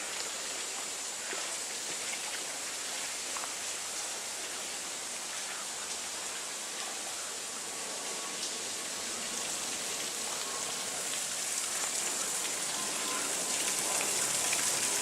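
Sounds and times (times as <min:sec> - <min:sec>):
water falling and splashing: 0:00.0 - 0:15.0.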